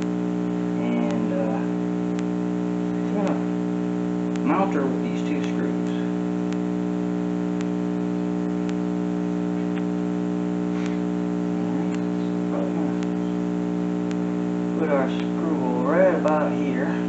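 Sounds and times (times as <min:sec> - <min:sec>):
faint ticking: 0:00.0 - 0:15.4
steady electrical hum: 0:00.0 - 0:17.0.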